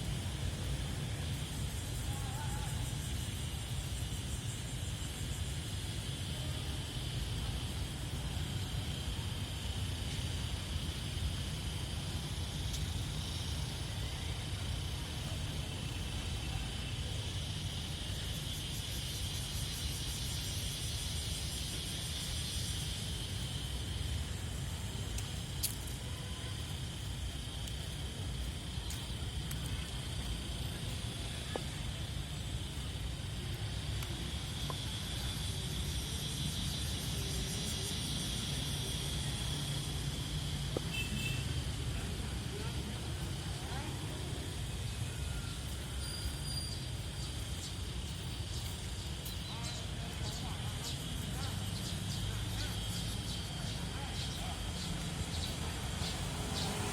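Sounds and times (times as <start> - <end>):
high-pitched hiss: 0.0 - 56.9
traffic rumble: 0.0 - 56.9.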